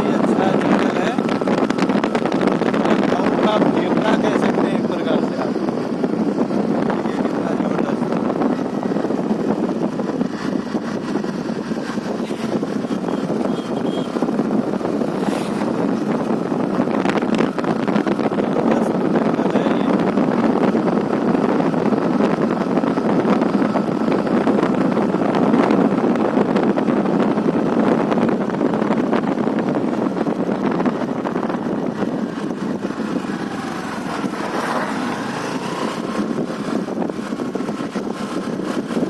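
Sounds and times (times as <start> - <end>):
moving vehicle rumble: 0.0 - 39.0
wind noise on microphone: 0.0 - 39.0.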